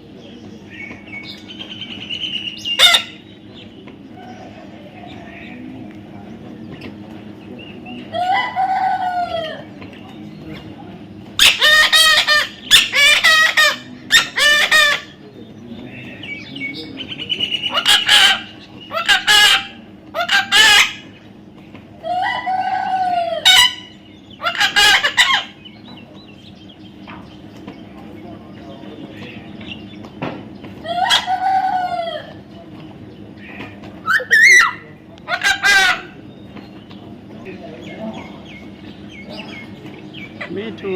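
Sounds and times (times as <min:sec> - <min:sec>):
loud drawn-out bird calls: 0:00.0 - 0:05.7, 0:11.0 - 0:40.9.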